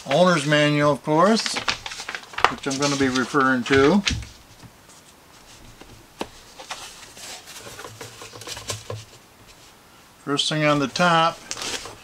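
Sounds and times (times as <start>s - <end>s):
cardboard and paper rustling: 1.2s - 9.7s, 10.8s - 12.0s.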